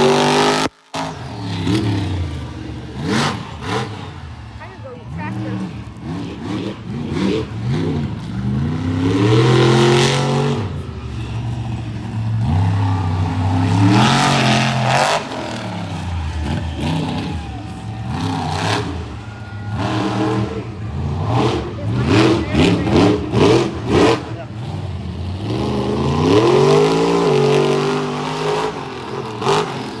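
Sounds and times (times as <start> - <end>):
monster truck engine revving: 0.0 - 30.0.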